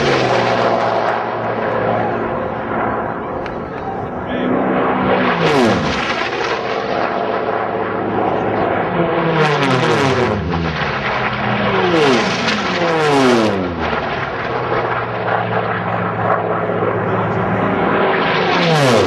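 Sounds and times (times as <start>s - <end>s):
propeller planes flying past: 0.0s - 19.0s.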